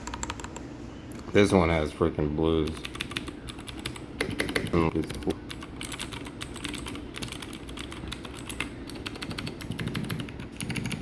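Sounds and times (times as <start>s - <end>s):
clicky mechanical keyboard typing: 0.0s - 0.6s, 2.8s - 11.0s.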